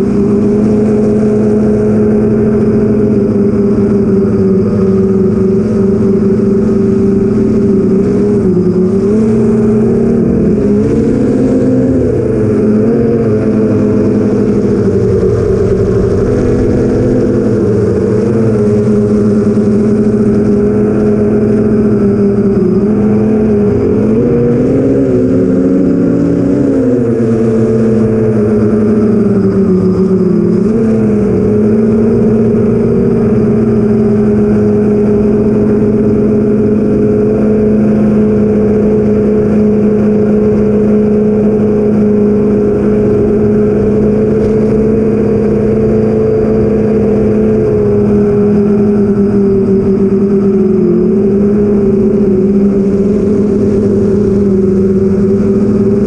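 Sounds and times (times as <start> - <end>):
quadcopter propellers droning: 0.0 - 56.0.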